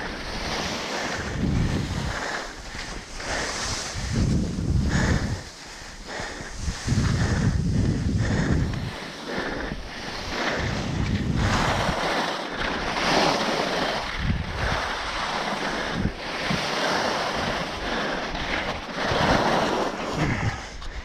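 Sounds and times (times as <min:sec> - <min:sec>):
skis scraping over snow: 0:00.0 - 0:21.0
wind buffeting microphone: 0:00.0 - 0:21.0.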